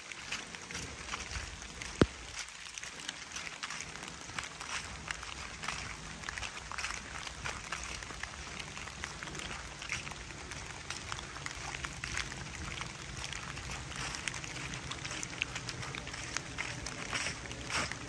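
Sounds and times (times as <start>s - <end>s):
footsteps in wet leaves: 0.0s - 18.0s
rain pattering on leaves: 0.0s - 18.0s.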